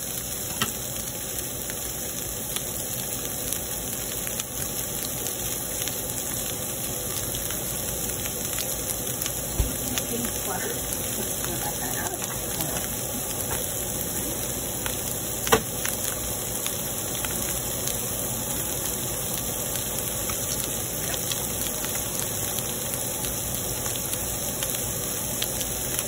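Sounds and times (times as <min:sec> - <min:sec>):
meat sizzling in a hot pan: 0:00.0 - 0:26.0.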